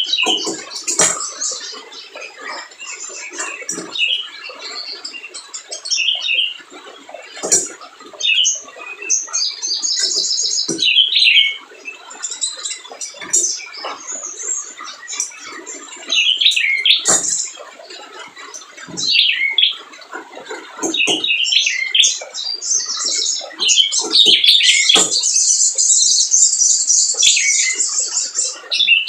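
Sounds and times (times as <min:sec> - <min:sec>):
bird chirping and trilling: 0:00.0 - 0:29.0.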